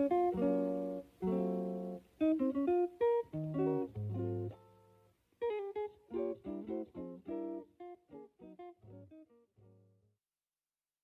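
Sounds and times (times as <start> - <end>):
plucked acoustic guitar: 0.0 - 4.8, 5.5 - 9.8.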